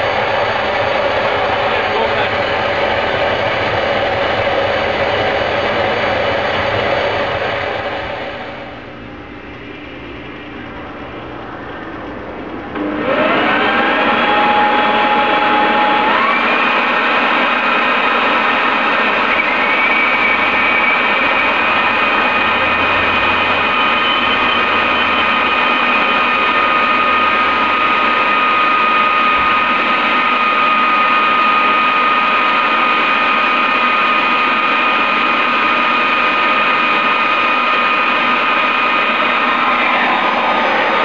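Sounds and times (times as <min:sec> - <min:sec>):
turbojet engine running: 0:00.0 - 0:41.0.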